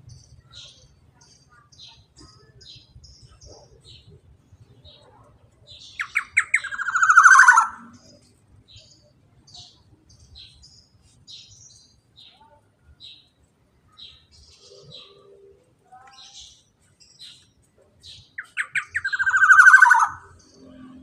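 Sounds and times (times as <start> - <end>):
faint high bird chirps: 0.0 - 21.0.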